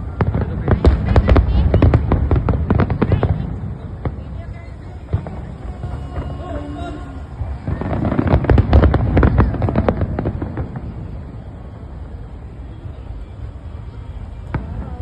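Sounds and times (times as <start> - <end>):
fireworks cracks and bangs: 0.0 - 12.5, 13.8 - 15.0.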